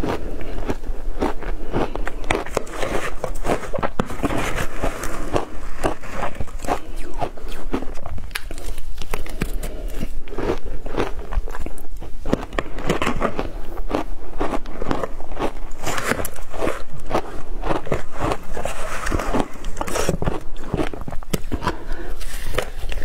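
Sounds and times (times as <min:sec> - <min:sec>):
ice crunching in mouth: 0:00.0 - 0:23.0.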